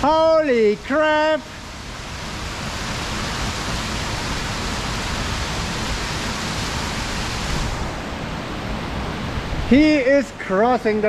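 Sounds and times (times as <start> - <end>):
river and waterfall rushing: 0.0 - 11.0.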